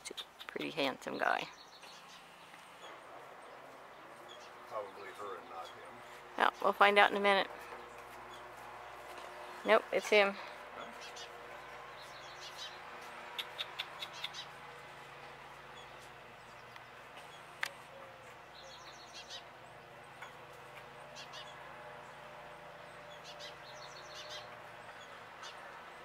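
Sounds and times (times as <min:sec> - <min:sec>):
birds chirping: 0:00.0 - 0:26.0
steady background hum: 0:00.0 - 0:26.0.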